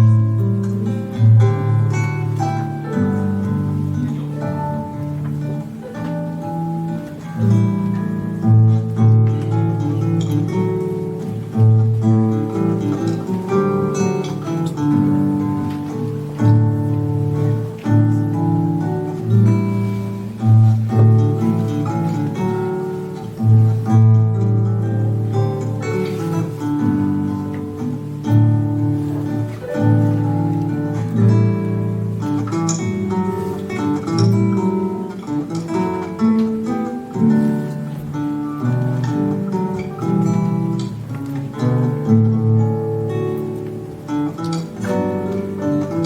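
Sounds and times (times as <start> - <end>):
classical guitar trio playing: 0.0 - 46.0.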